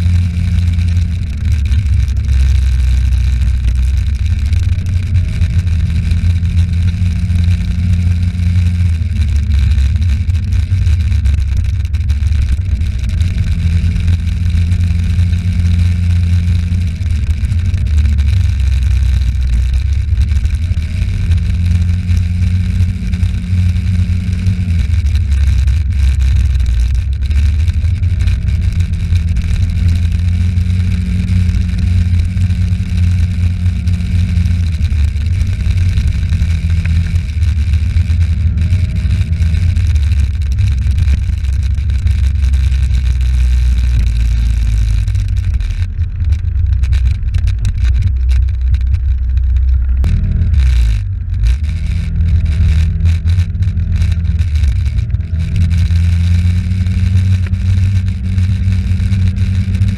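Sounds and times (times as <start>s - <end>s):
vehicle engine running: 0.0s - 59.9s
wind rumble on microphone: 0.0s - 59.9s.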